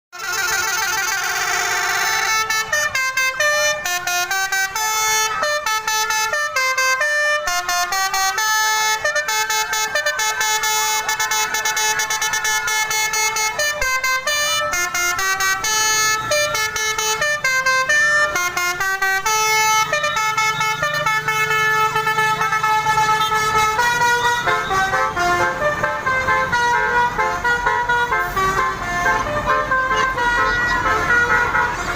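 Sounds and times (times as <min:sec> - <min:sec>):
bus horn playing melody: 0:00.1 - 0:31.9.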